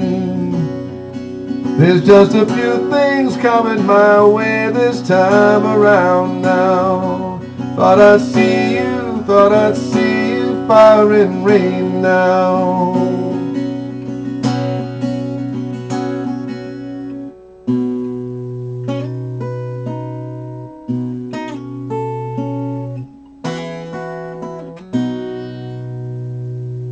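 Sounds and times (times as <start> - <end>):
acoustic guitar chords: 0.0 - 26.9.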